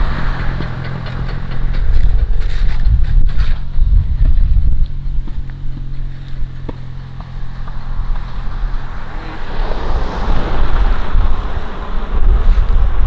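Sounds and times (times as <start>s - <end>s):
broad rushing noise: 0.0s - 13.0s
vehicle engine hum: 0.0s - 13.0s
wind buffeting microphone: 0.0s - 13.0s.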